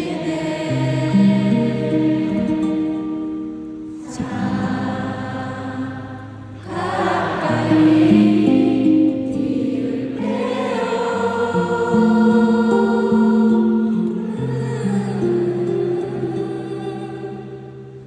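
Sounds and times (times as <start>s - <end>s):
crowd singing a ballad: 0.0s - 18.0s.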